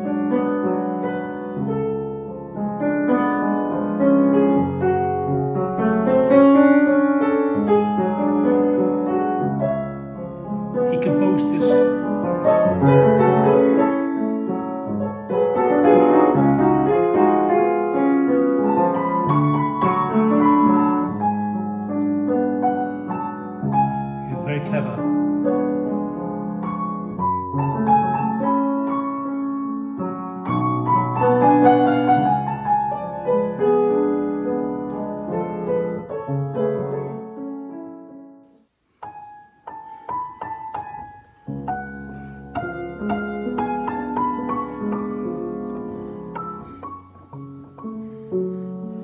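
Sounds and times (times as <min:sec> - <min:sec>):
slow piano chords and melody: 0:00.0 - 0:49.0.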